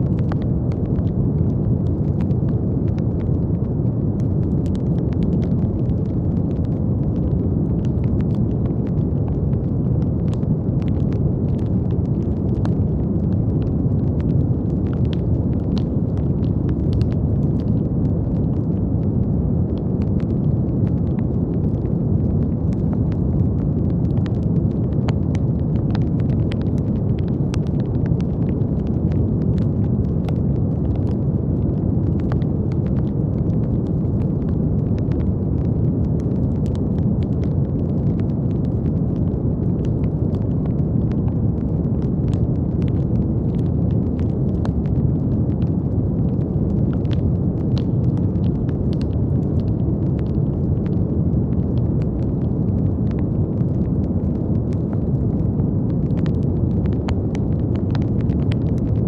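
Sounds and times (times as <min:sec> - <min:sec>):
faint crackles: 0:00.0 - 0:59.0.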